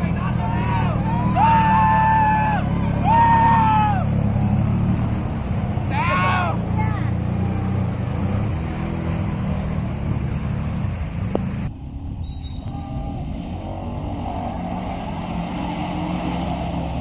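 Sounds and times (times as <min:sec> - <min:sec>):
off-road engines revving: 0:00.0 - 0:17.0.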